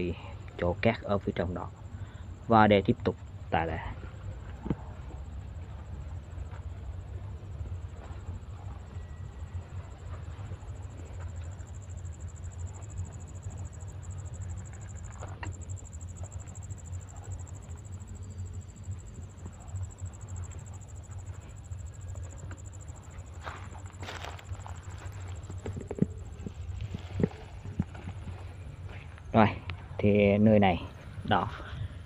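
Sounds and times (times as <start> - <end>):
insects chirring: 0.0 - 32.0
low rumble: 0.3 - 30.1.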